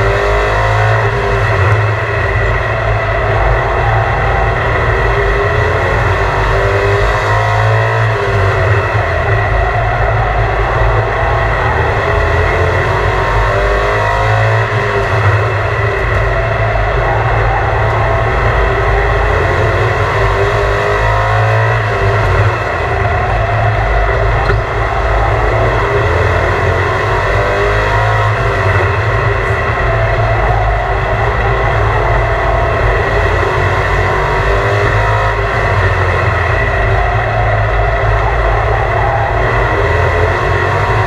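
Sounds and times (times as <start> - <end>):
loud vehicle engine noise: 0.0 - 41.0.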